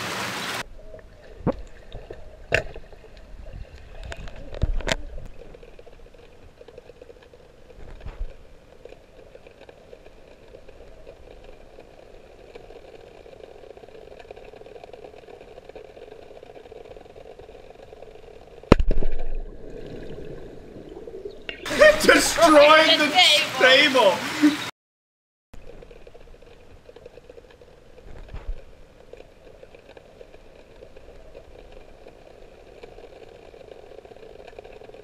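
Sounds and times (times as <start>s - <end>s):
underwater hum: 0.0s - 24.7s, 25.6s - 35.0s
underwater knocks and sloshing: 0.8s - 21.7s, 25.6s - 35.0s.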